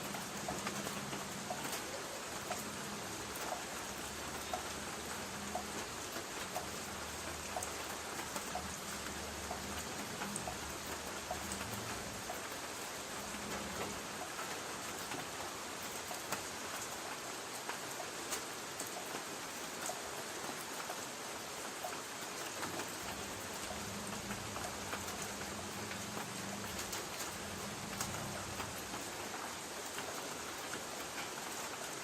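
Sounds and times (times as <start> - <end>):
light rain on a tin roof: 0.0 - 32.0.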